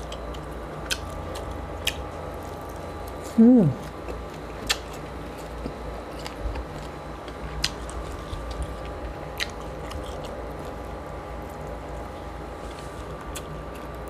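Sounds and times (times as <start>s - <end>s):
chewing soft food: 0.0s - 14.0s.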